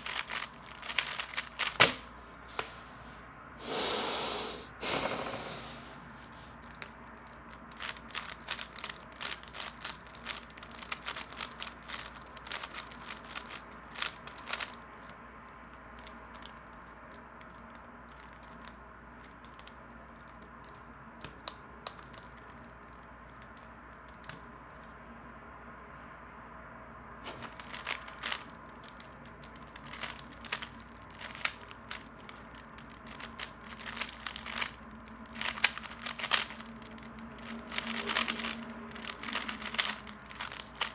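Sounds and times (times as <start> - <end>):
puzzle cube plastic clicks: 0.0 - 2.1, 6.2 - 15.2, 15.9 - 24.5, 27.3 - 40.9.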